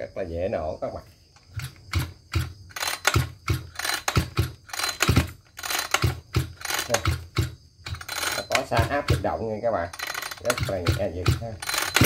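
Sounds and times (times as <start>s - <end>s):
recoil starter clicking: 1.4s - 12.0s.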